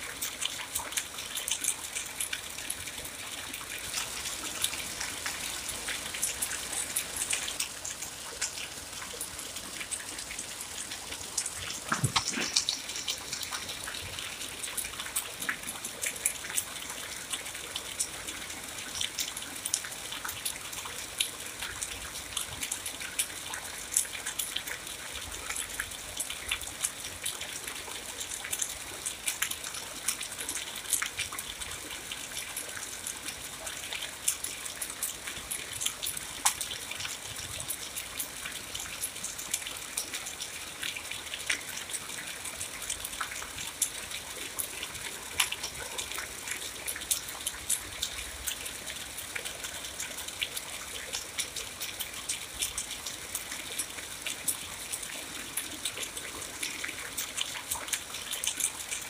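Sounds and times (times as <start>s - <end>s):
rain falling: 0.0s - 59.0s
raindrops ticking: 0.0s - 59.0s.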